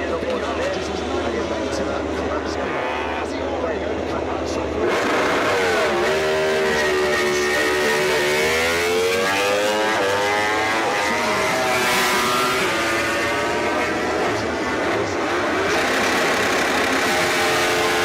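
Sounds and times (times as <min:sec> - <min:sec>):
racing motorcycle engines revving: 0:00.0 - 0:18.0.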